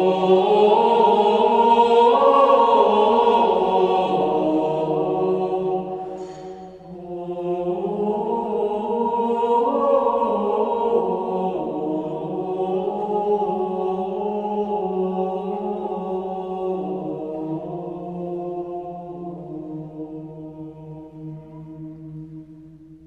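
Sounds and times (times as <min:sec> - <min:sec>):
chant-like vocal music: 0:00.0 - 0:23.0.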